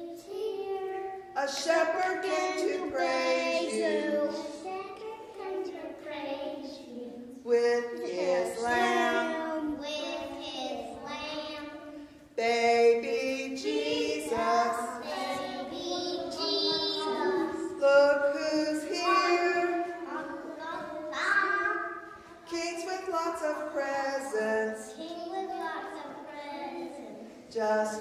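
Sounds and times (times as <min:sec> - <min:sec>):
children singing: 0:00.0 - 0:28.0.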